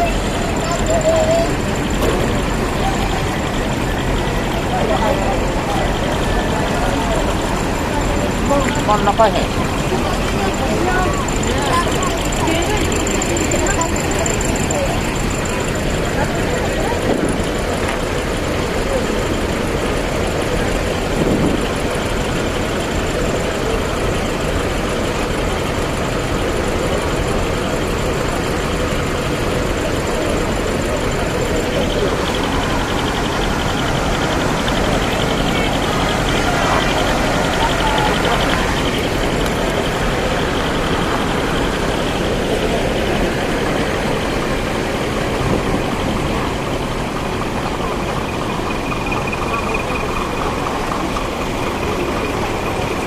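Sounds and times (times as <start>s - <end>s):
diesel truck engines idling: 0.0s - 53.0s.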